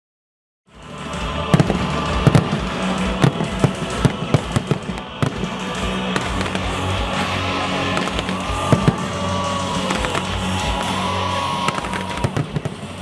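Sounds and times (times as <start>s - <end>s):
music playing: 0.7s - 13.0s
fireworks bangs and cracks: 1.0s - 13.0s.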